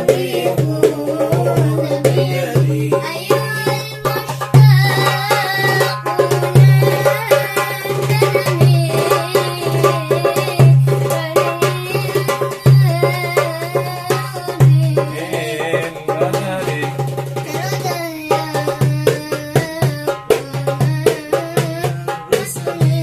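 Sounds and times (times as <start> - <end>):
hand drum rhythm: 0.0 - 23.0.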